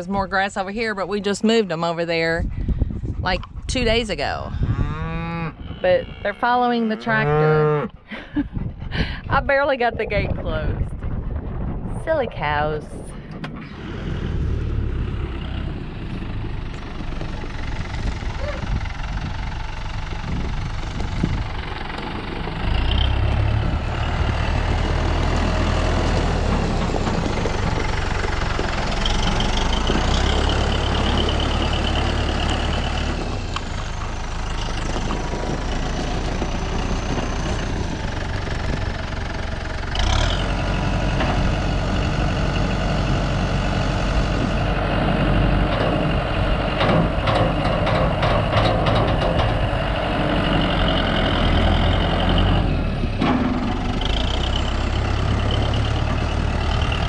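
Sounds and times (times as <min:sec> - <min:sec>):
farm vehicle engine humming: 0:00.0 - 0:57.0.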